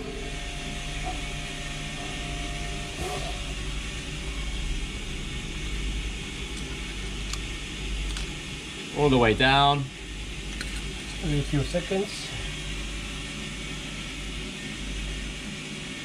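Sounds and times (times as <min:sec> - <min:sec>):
machinery hum and hiss: 0:00.0 - 0:16.0.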